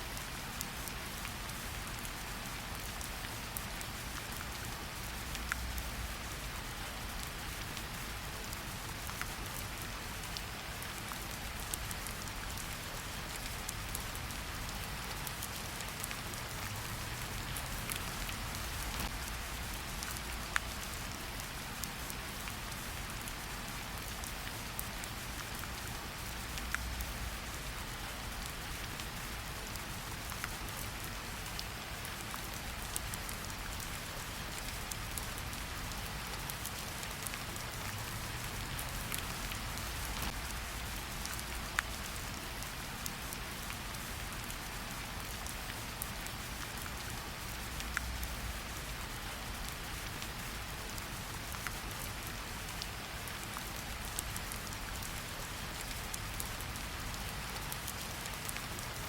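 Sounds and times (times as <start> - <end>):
steady rain falling: 0.0 - 59.0
raindrops ticking on leaves: 0.1 - 59.0.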